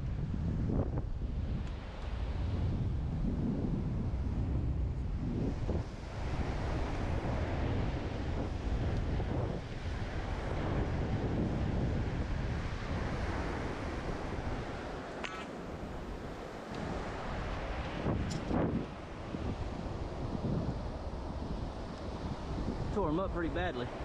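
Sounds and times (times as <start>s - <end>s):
surf washing in: 0.0s - 24.0s
wind buffeting microphone: 0.0s - 24.0s.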